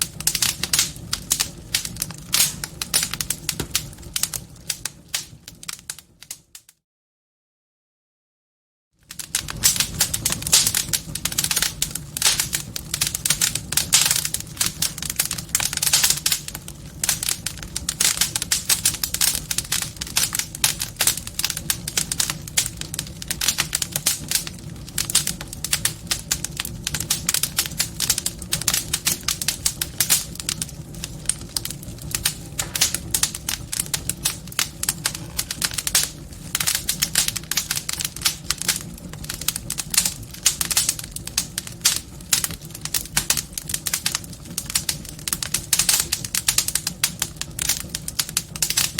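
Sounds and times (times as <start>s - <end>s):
low rumble of flames: 0.0s - 6.6s, 9.0s - 48.9s
wood fire crackling: 0.0s - 6.7s, 9.0s - 48.9s.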